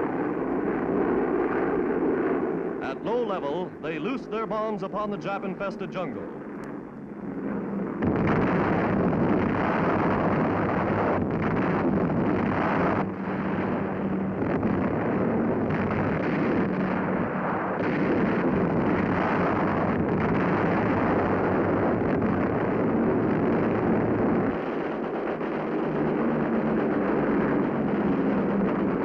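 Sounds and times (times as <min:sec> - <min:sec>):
bomb explosions rumbling: 0:00.0 - 0:29.0
engine drone: 0:00.0 - 0:29.0.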